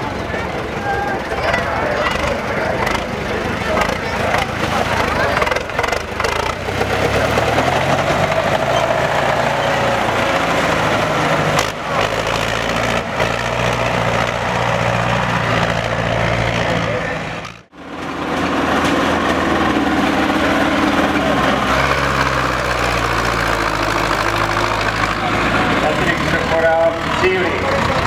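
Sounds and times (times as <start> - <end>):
second tractor engine: 0.0 - 28.0
tractor diesel engine running: 0.0 - 28.0.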